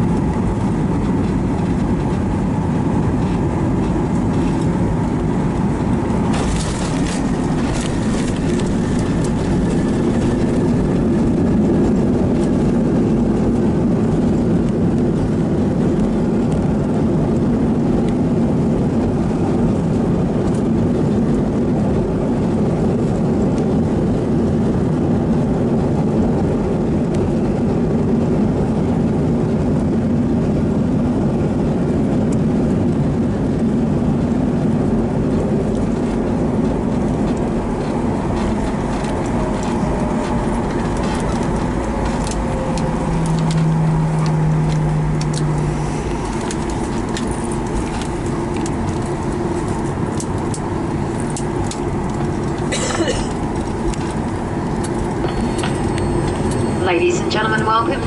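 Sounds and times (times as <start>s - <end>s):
jet engines roaring: 0.0s - 58.0s
wheels rumbling on runway: 0.0s - 58.0s.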